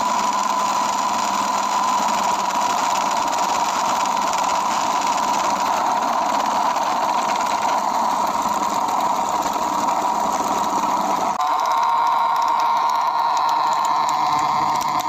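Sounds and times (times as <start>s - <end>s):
small toy motor whining: 0.0s - 15.0s.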